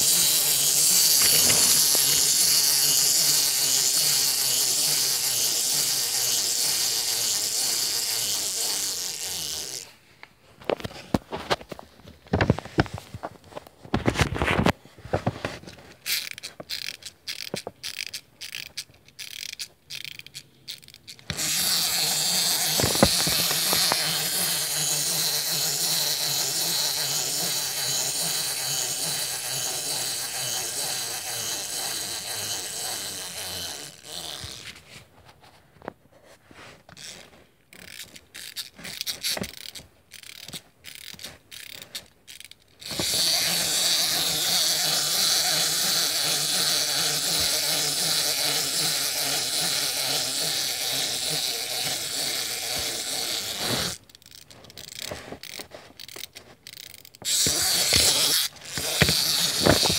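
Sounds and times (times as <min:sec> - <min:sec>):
clockwork toy gears whirring: 0:00.0 - 0:10.0, 0:15.2 - 0:34.8, 0:36.9 - 0:59.9.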